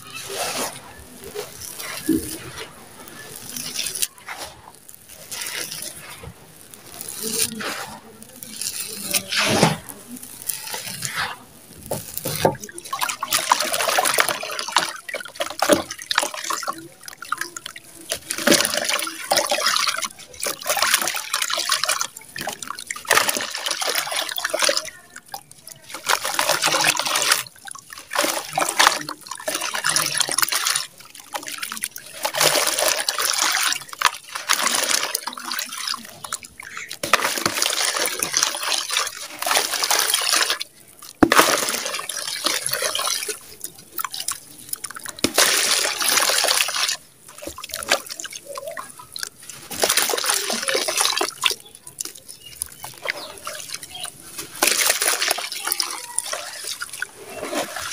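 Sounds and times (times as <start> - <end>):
sand dripping into water: 0.0 - 57.9.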